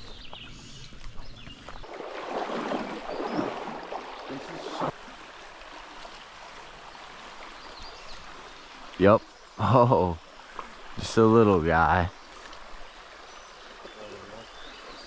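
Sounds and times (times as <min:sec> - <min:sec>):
mountain stream running water: 0:00.0 - 0:15.0.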